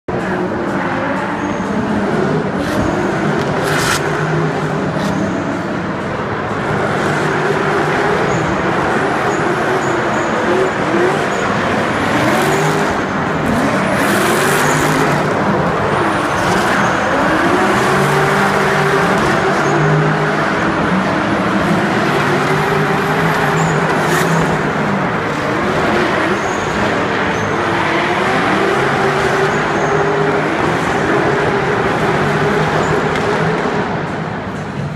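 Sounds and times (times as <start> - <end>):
car engines revving: 0.0 - 34.9.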